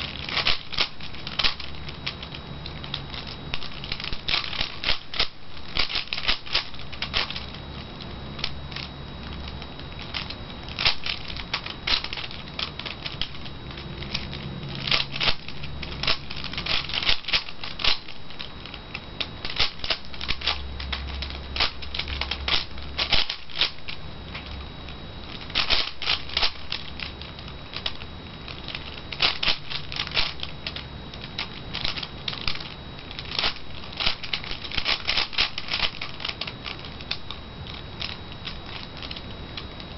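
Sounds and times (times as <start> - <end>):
plastic puzzle cube clicking: 0.1 - 2.3, 2.9 - 7.5, 8.4 - 18.2, 19.4 - 24.5, 25.5 - 27.0, 28.6 - 39.2.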